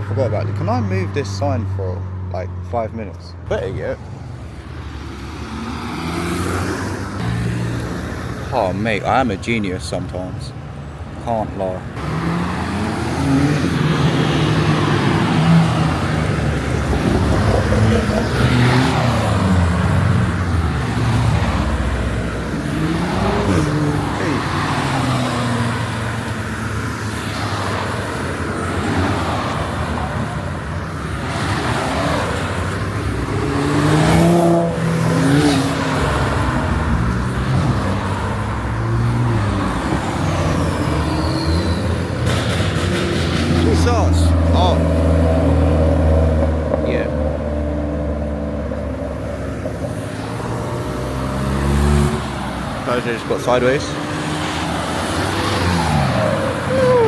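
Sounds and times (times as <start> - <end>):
cars revving past: 0.0 - 57.0.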